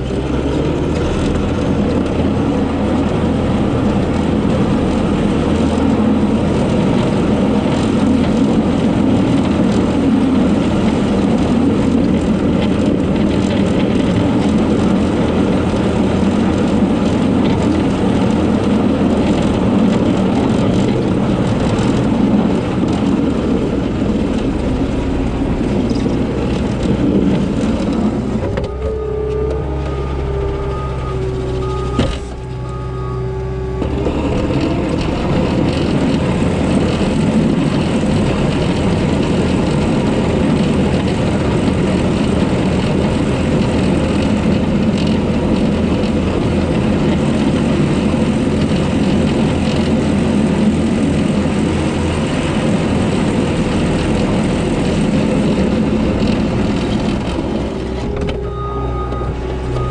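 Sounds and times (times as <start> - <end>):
diesel engine loud rushing: 0.0 - 59.9
steady whine: 0.0 - 59.9.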